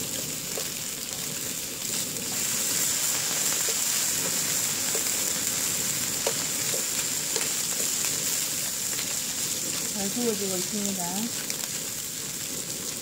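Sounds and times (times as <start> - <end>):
meat sizzling in frying pan: 0.0 - 13.0.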